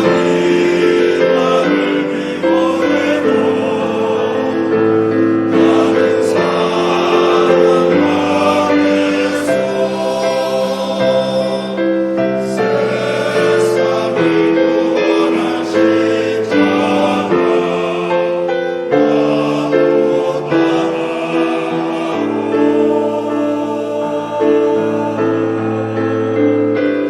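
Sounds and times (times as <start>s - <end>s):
choir singing a hymn: 0.0s - 27.0s
piano accompaniment: 0.0s - 27.0s.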